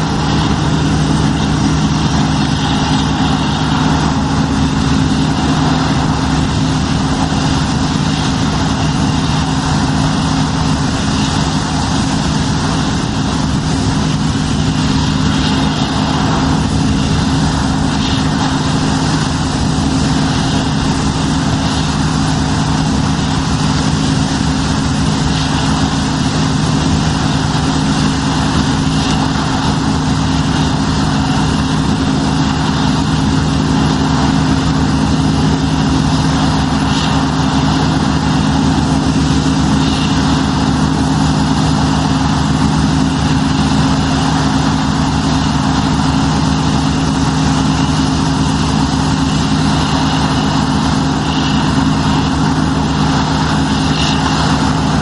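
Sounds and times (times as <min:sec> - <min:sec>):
auger pouring grain: 0:00.0 - 0:55.0
combine harvester humming: 0:00.0 - 0:55.0.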